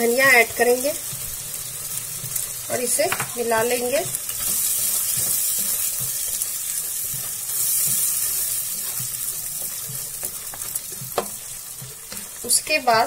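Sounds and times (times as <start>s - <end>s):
gravy sizzling in a pan: 0.0s - 13.0s.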